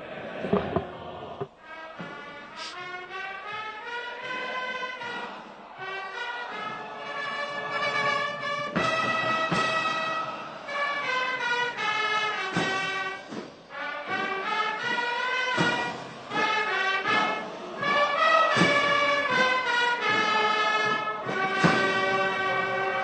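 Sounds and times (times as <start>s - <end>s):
brass music: 1.4s - 23.0s.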